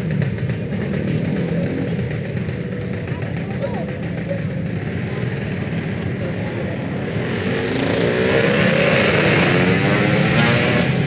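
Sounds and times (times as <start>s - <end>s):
engine passing close: 0.0s - 11.0s
traffic rumble: 0.0s - 11.0s.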